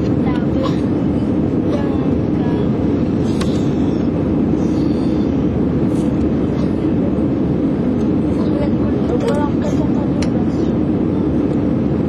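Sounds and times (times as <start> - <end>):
jet engine roar in cabin: 0.0 - 12.0
rushing air: 0.0 - 12.0.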